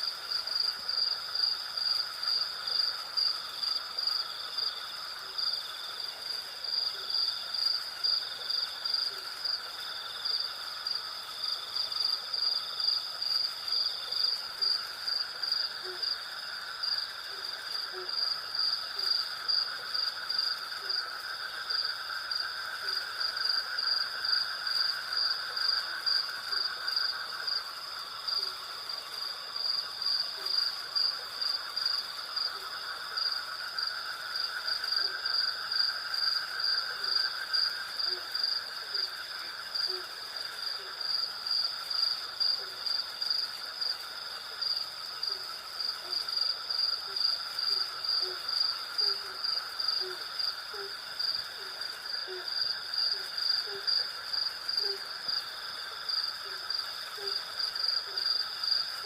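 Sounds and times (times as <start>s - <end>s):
crickets chirping: 0.0s - 59.0s
low insect drone: 0.0s - 59.0s.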